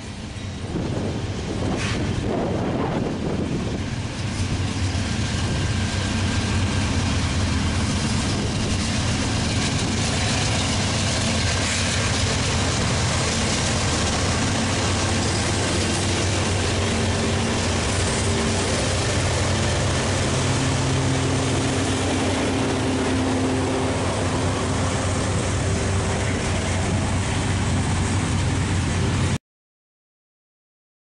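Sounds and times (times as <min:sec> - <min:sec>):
freight train locomotives droning: 0:00.0 - 0:29.4.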